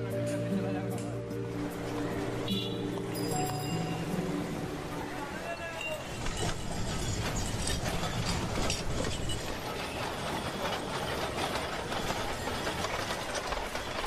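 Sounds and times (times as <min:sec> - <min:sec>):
busy street noise: 0:00.0 - 0:14.0.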